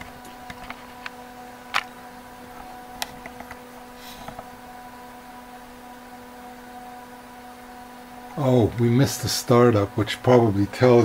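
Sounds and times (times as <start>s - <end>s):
cooling fan humming: 0.0s - 11.0s.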